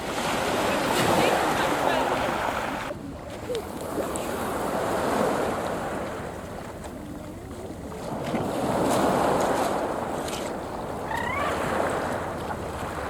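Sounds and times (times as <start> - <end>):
sea waves washing onto beach: 0.0 - 13.0.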